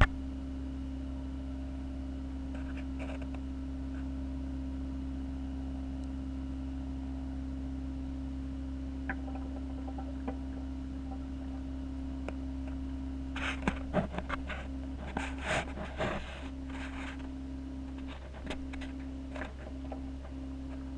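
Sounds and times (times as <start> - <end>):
aquarium pumps humming: 0.0 - 20.9.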